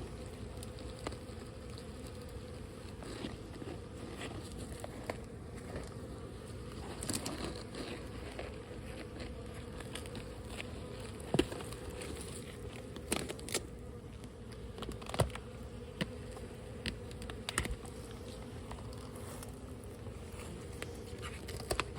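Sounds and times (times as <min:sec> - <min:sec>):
bee colony buzzing: 0:00.0 - 0:21.9.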